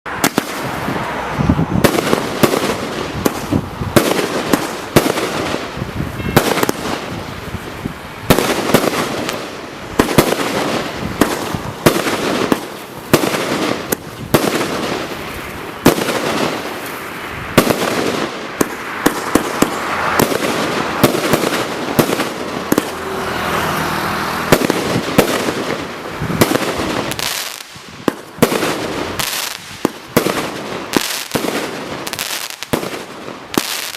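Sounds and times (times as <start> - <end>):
firework bangs: 0.1 - 33.9
firework crackling: 0.1 - 33.9.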